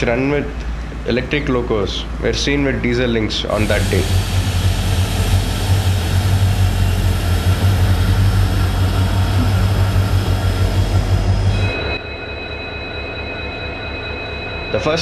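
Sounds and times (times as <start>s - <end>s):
diesel train engine hum: 0.0s - 15.0s
high whine: 0.0s - 15.0s
train rushing noise: 0.0s - 15.0s.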